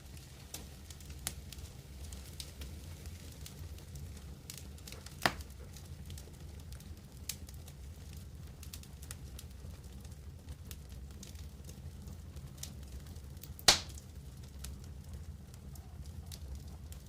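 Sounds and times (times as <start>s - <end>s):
campfire crackling: 0.0s - 17.0s
fire rumbling low: 0.0s - 17.0s.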